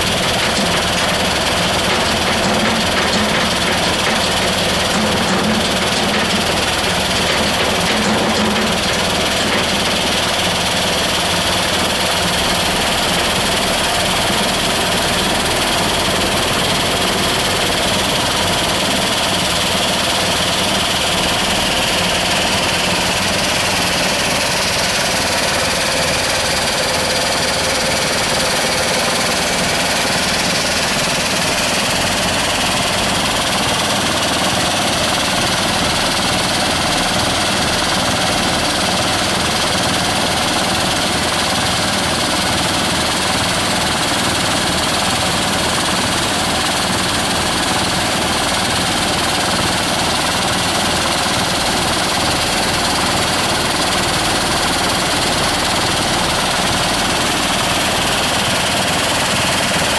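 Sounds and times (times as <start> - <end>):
soil screening machine running: 0.0 - 59.9.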